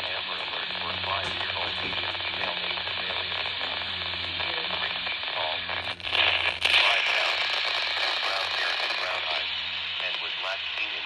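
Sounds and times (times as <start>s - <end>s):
faint speech in noise: 0.0s - 5.9s, 6.7s - 11.0s
burst of crackling static: 0.0s - 11.0s
radio static hiss: 0.0s - 11.0s.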